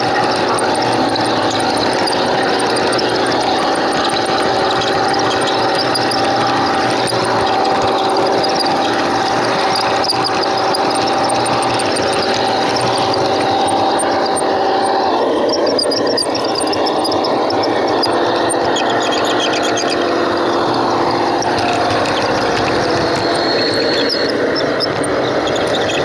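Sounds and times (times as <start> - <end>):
electric motor and gear whine: 0.0 - 26.0
wheels rumbling on track: 0.0 - 26.0.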